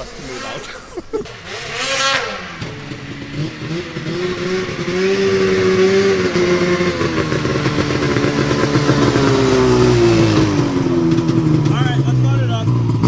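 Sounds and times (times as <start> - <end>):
snowmobile engine: 0.0 - 13.0.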